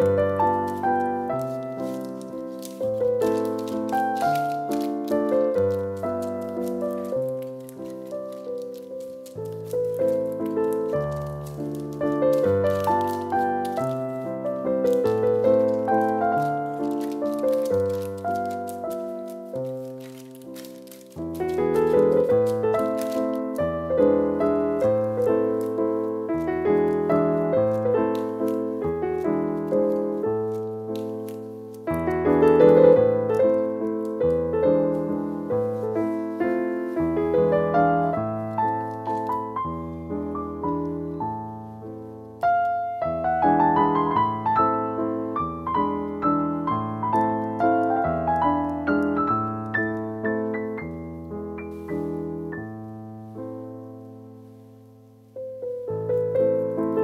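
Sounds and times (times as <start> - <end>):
solo piano music: 0.0 - 57.0.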